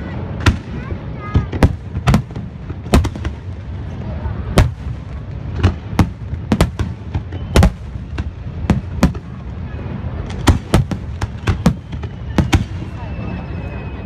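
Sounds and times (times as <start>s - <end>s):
fireworks bangs: 0.0s - 13.8s.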